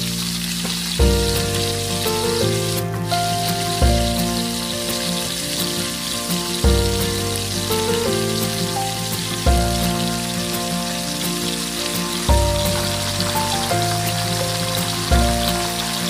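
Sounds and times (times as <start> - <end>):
background music: 0.0 - 16.0
chicken frying in hot oil: 0.0 - 16.0.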